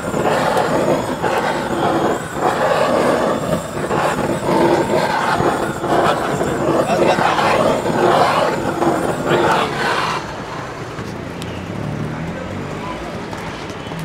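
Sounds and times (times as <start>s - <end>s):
gas blowtorch roaring: 0.0s - 14.0s
street noise: 0.0s - 14.0s.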